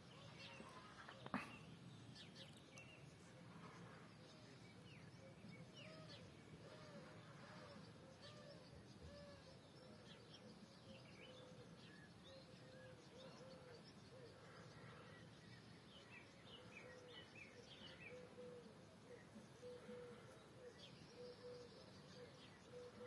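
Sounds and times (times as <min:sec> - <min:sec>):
distant bird calls: 0:00.0 - 0:23.0.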